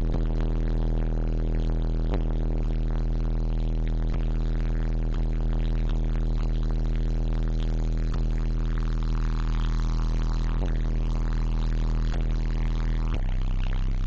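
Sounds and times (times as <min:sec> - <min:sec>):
subwoofer deep bass drone: 0:00.0 - 0:14.0.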